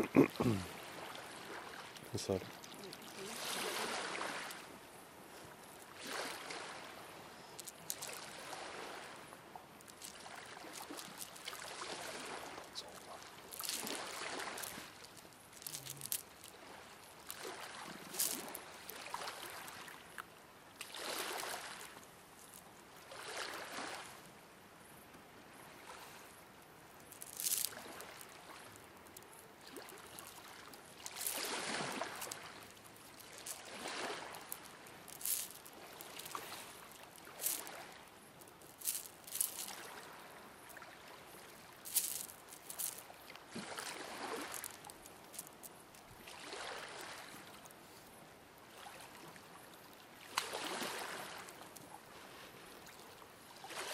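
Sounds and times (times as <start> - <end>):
water splashes: 0.0 - 4.8, 5.6 - 24.2, 27.1 - 47.7, 48.6 - 53.9
small waves lapping on rocks: 0.0 - 24.3, 25.7 - 53.9.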